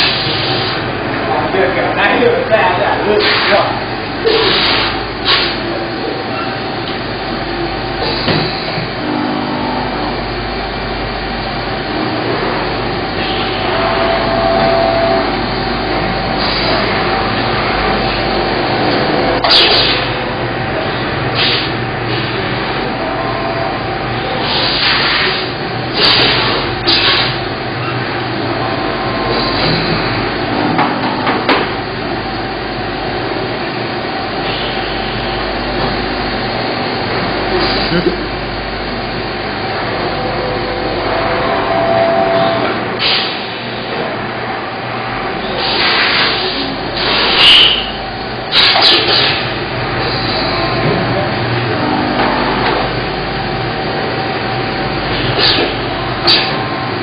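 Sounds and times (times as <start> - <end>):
mechanical hum of machinery: 0.0 - 57.0.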